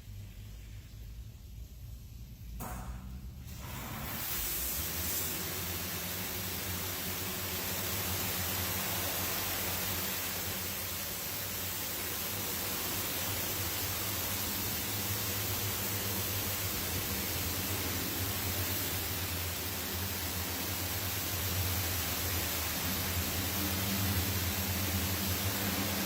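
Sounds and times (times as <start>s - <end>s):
car wash spray hiss: 0.0s - 26.0s
low machine hum: 0.0s - 26.0s.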